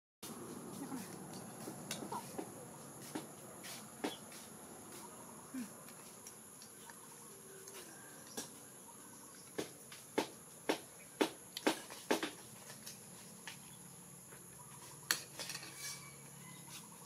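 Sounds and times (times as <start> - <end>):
high drone of insects: 0.2 - 17.0.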